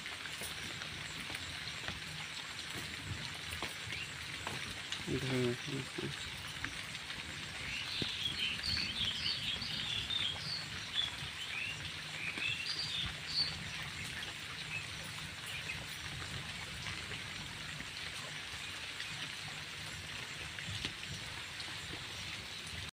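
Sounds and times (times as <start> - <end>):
rain falling: 0.0 - 22.9
birds chirping: 0.4 - 22.8.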